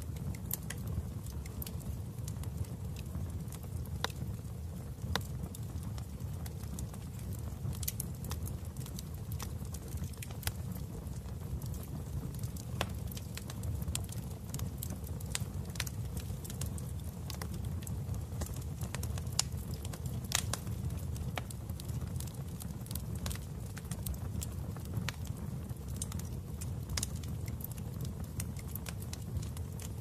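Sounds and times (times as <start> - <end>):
burning wood crackling and popping: 0.0 - 30.0
low rumble of flames: 0.0 - 30.0.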